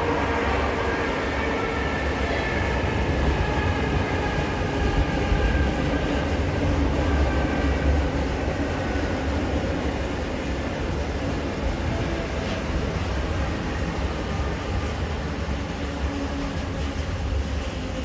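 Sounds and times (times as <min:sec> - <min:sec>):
electric train rumble: 0:00.0 - 0:18.0.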